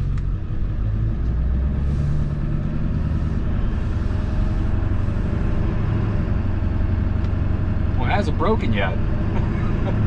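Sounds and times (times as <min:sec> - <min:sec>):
pickup engine and drivetrain rumble: 0:00.0 - 0:10.0.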